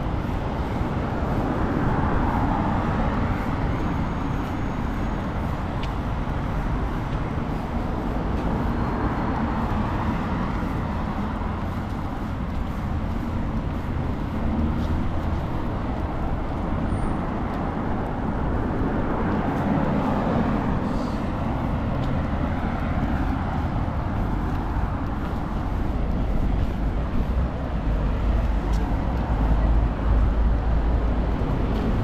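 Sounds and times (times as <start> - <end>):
city road traffic: 0.0 - 32.0.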